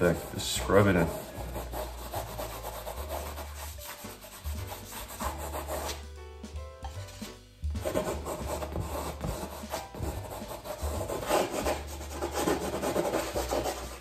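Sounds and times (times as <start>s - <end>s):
bristle brush scrubbing canvas: 0.0s - 6.1s, 6.9s - 14.0s.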